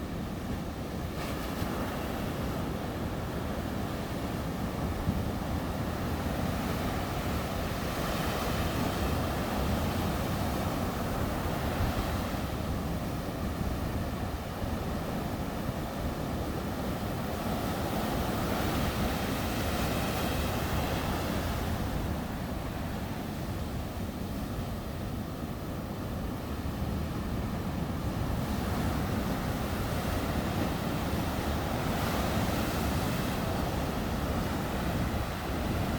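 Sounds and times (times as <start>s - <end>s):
low roar of waves: 0.0s - 35.9s.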